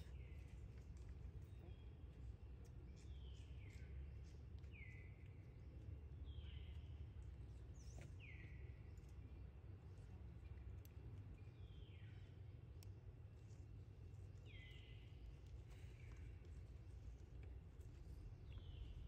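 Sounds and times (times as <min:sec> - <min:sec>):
faint low rumble: 0:00.0 - 0:19.0.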